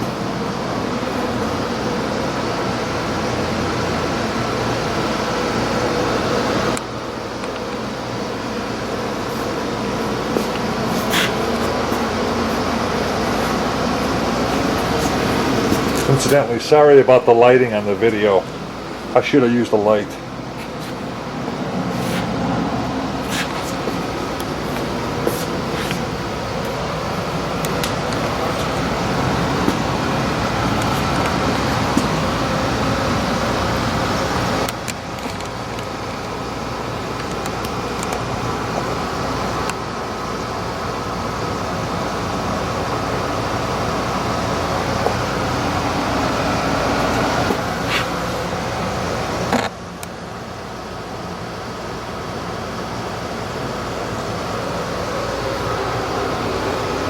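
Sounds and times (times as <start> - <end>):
air conditioner humming: 0.0 - 57.0
road vehicle rumble: 0.0 - 57.0.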